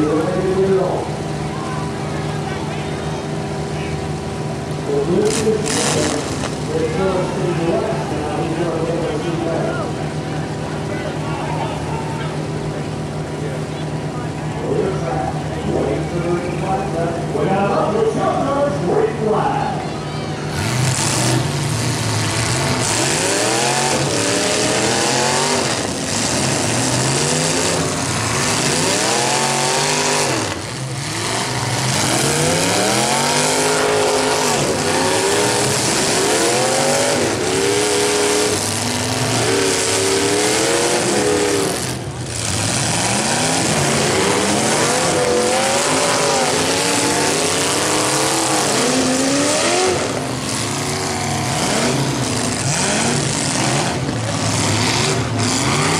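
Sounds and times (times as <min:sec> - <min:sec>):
car engines revving: 0:00.0 - 0:55.9
steady noisy rush: 0:00.0 - 0:55.9.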